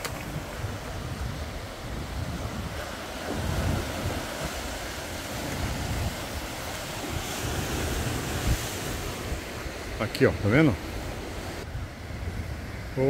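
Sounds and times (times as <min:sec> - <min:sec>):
surf washing on rocky shore: 0:00.0 - 0:13.0
wind buffeting microphone: 0:00.0 - 0:13.0.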